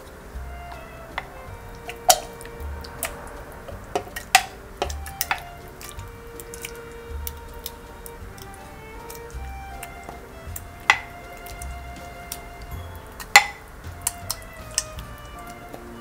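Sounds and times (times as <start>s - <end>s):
wet plops: 0.0s - 16.0s.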